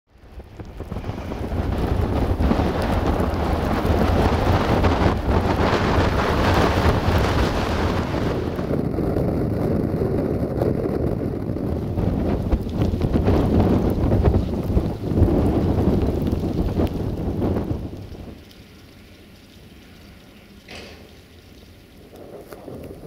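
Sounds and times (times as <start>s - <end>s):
blizzard wind buffeting microphone: 0.1s - 20.6s, 21.2s - 23.0s.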